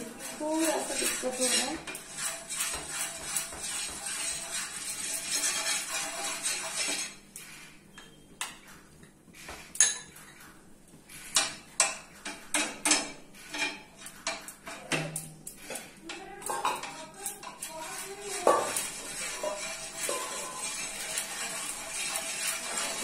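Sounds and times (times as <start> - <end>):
utensil clinking and scraping pan: 0.0 - 23.0.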